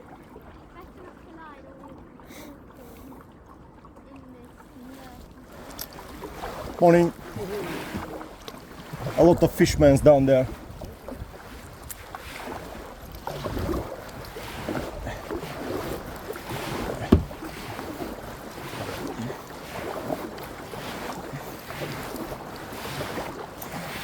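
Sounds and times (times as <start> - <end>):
paddle strokes in water: 0.0 - 24.0.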